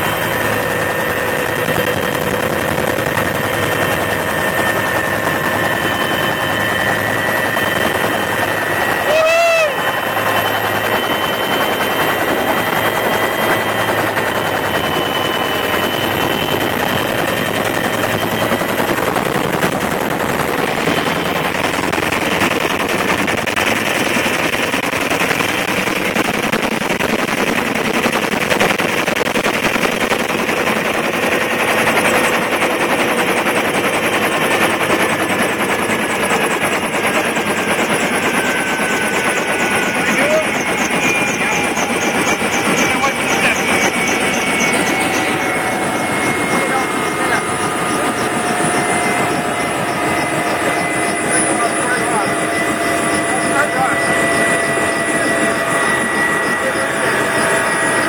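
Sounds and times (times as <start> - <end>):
helicopter rotor noise: 0.0 - 58.0
high engine whine: 0.0 - 58.0.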